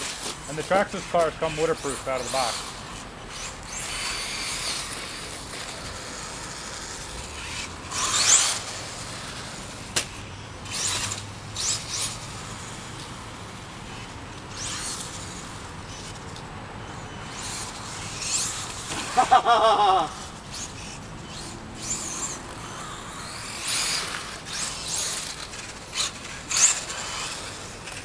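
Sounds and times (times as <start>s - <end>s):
rc car electric motor whining: 0.0s - 28.0s.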